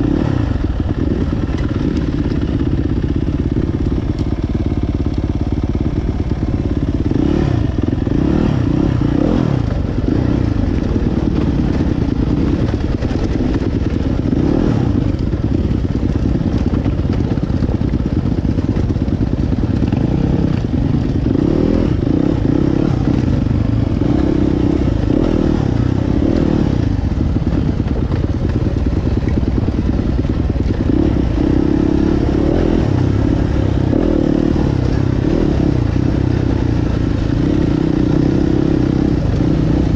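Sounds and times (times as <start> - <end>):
dirt bike engine revving: 0.0 - 16.8, 18.4 - 39.9.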